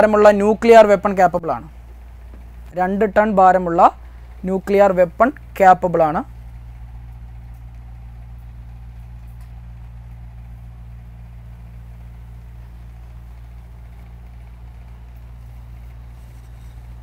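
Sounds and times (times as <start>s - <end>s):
low hum with faint hiss: 0.0s - 17.0s.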